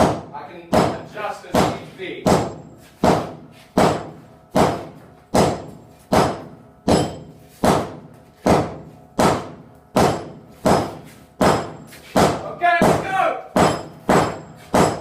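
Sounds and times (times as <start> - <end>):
sledgehammer striking metal: 0.0 - 15.0.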